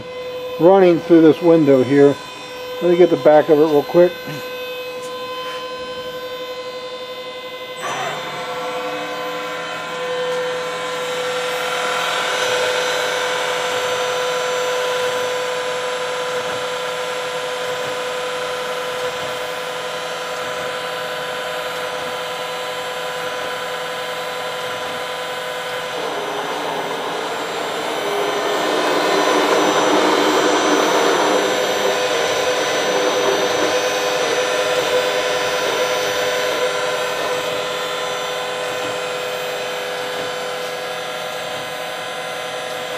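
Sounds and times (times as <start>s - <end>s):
loud rough machine noise: 0.0s - 5.5s, 7.8s - 42.9s
machine whine: 0.0s - 42.9s.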